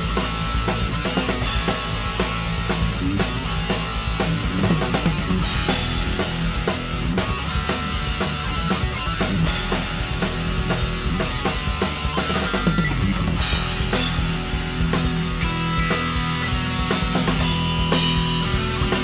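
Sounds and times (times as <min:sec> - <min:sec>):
drum kit beat: 0:00.0 - 0:19.0
electric guitar: 0:00.0 - 0:19.0.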